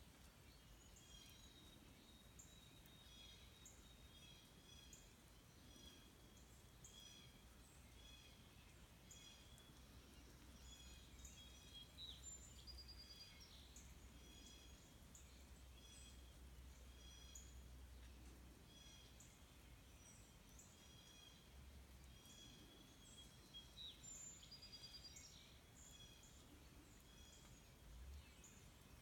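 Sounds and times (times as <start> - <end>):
bird chirping: 0.1 - 29.0.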